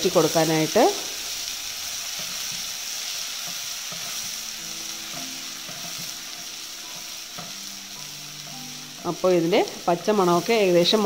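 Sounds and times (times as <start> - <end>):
paste sizzling in oil: 0.0 - 11.0
spatula stirring in pan: 1.2 - 11.0.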